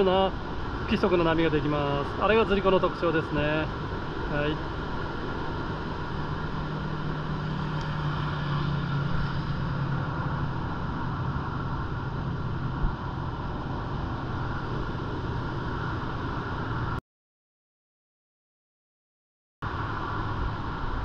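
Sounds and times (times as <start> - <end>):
heavy surf breaking on beach: 0.0 - 17.0
low hum: 0.0 - 17.0.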